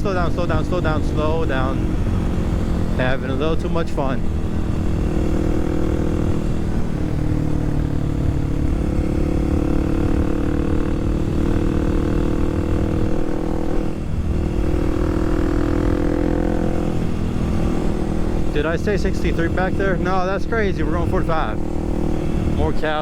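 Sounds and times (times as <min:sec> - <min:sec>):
motorcycle engine running: 0:00.0 - 0:23.0
wind rumble on microphone: 0:00.0 - 0:23.0.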